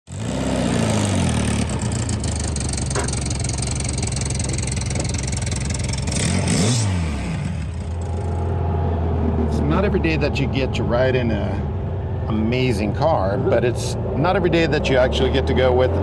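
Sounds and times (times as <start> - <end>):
car engine idling: 0.1 - 14.9
engine revving: 0.1 - 16.0.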